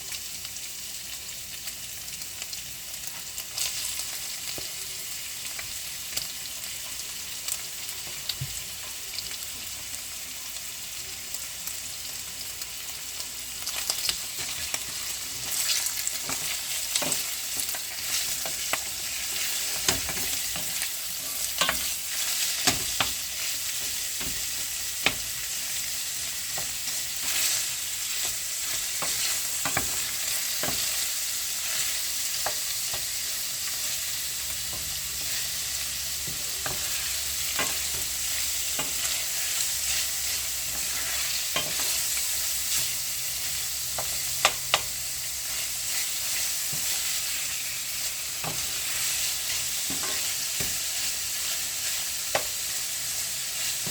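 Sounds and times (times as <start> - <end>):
food sizzling in a pan: 0.0 - 53.9.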